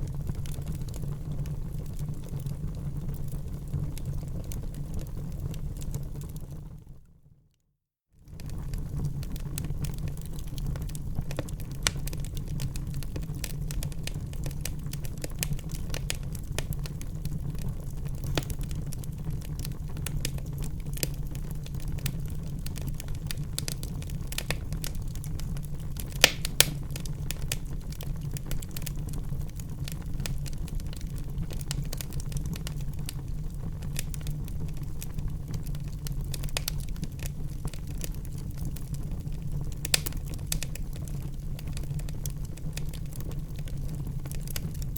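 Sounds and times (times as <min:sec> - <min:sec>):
fire rumbling: 0:00.0 - 0:06.9, 0:08.3 - 0:44.9
fire crackling and popping: 0:00.0 - 0:07.0, 0:08.3 - 0:44.9.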